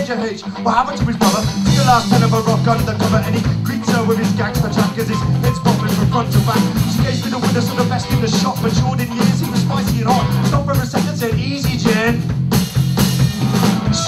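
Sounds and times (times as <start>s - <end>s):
man rapping into a microphone: 0.0s - 12.3s
live band music with drums: 0.9s - 14.0s
steady bass line: 1.0s - 14.0s.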